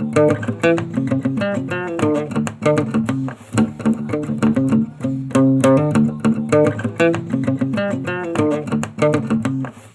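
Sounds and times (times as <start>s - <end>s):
plucked notes over bass line: 0.0s - 9.7s.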